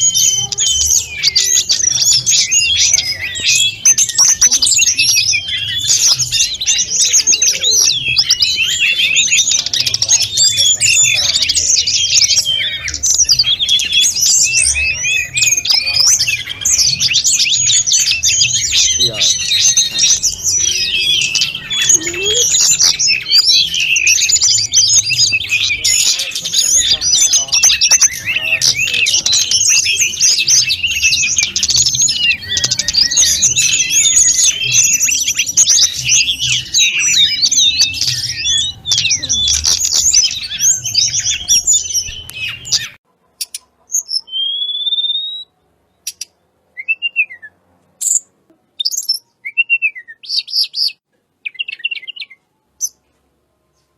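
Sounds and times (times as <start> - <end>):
clear bird whistles: 0.0 - 48.2, 48.8 - 53.0
songbird twittering: 0.0 - 53.0.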